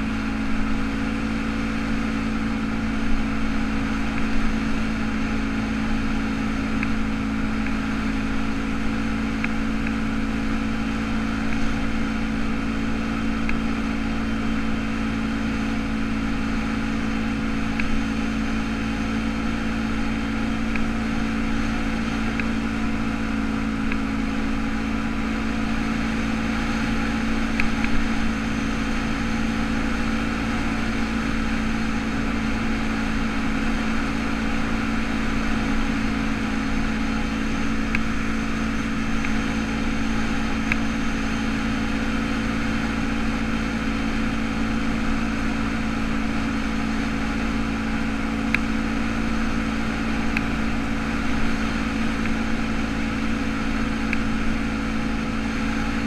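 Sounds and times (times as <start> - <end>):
atv engine droning: 0.0 - 56.0.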